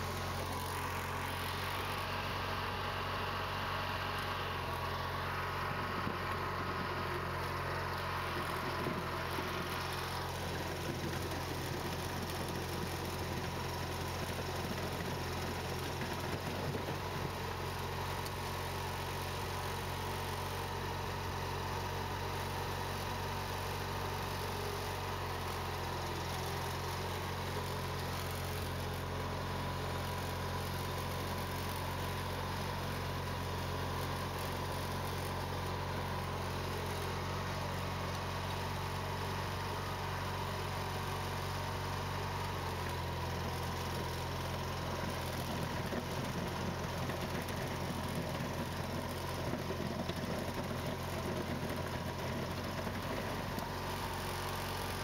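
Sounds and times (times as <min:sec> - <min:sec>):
garden tractor engine running: 0:00.0 - 0:55.0
plow blade pushing snow: 0:00.0 - 0:55.0.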